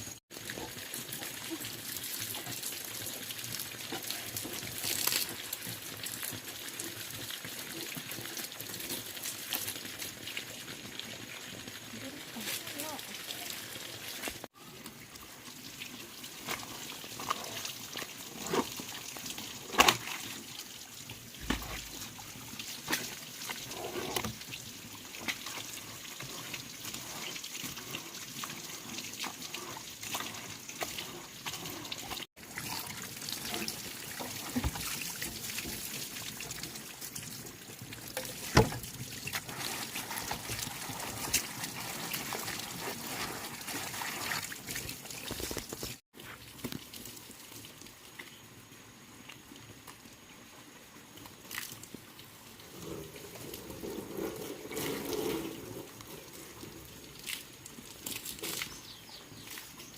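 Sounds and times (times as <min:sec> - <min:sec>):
liquid trickling: 0:00.0 - 0:49.8.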